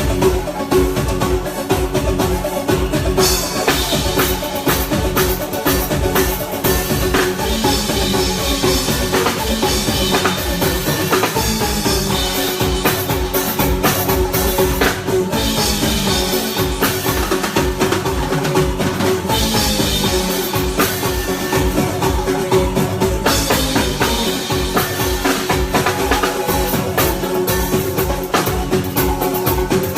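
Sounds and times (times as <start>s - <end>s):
drum kit beat: 0.0s - 29.9s
live band through loudspeakers: 0.0s - 29.9s.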